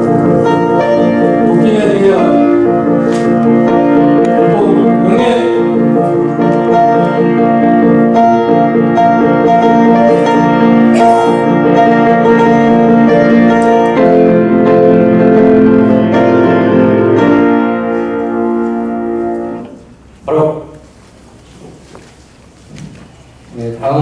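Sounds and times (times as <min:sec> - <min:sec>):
slow piano chords: 0:00.0 - 0:21.8.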